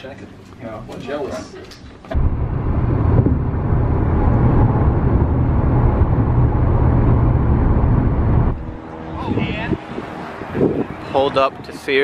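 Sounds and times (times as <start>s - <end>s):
road and wind noise in car: 2.0s - 12.0s.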